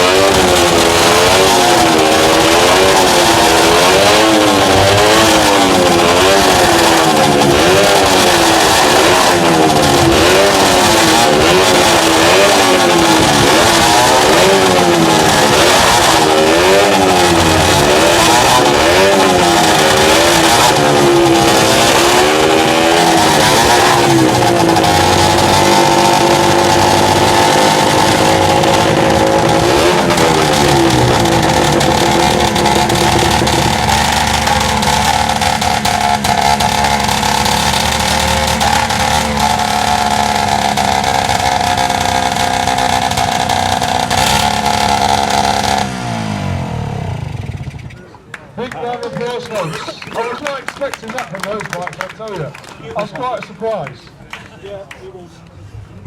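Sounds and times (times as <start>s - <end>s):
two-stroke motorcycle engines revving: 0.0s - 52.3s.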